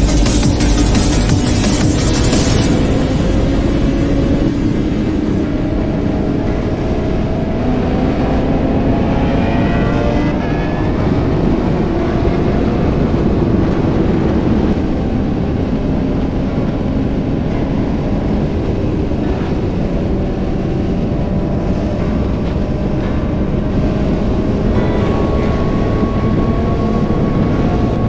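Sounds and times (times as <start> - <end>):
motorcycle engine drone: 0.0 - 28.0
wind rush on microphone: 0.0 - 28.0.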